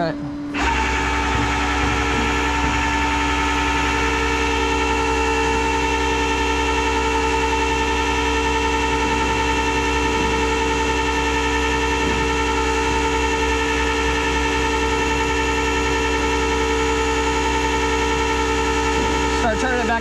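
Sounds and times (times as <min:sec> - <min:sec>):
hydraulic system whine: 0:00.0 - 0:20.0.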